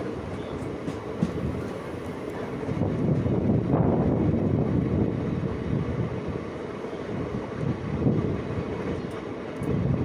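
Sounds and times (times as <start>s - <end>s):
train wheels rumbling on rails: 0.0s - 10.0s
wind buffeting microphone: 0.0s - 10.0s.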